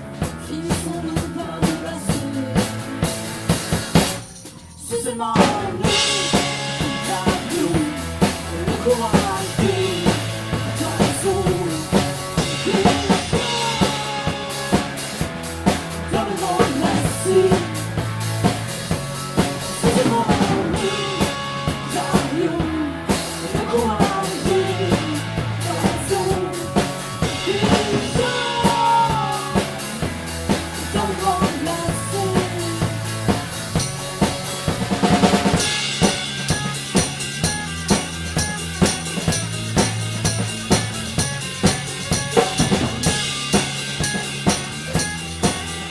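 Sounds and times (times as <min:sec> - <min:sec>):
held bass notes: 0:00.0 - 0:04.8, 0:05.4 - 0:45.9
drum kit beat: 0:00.0 - 0:45.9.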